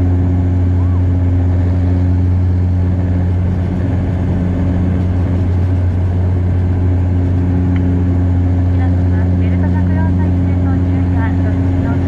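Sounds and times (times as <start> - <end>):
propeller engines droning: 0.0 - 12.0.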